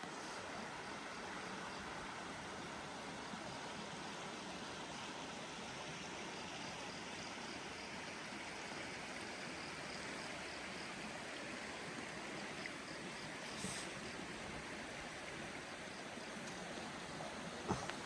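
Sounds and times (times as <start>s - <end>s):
river water running: 0.0s - 18.0s.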